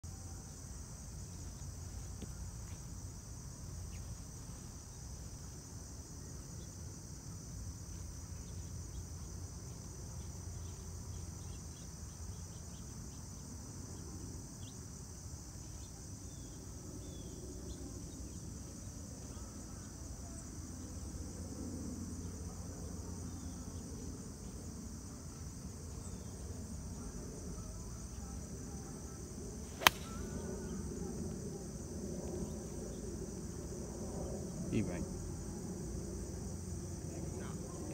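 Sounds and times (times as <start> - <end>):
insects chirping: 0.0 - 37.9.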